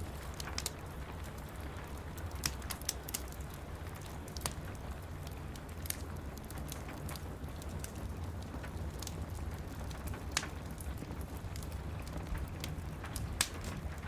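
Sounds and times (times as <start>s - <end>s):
soft rain hiss: 0.0s - 14.0s
wood fire crackling: 0.0s - 14.0s.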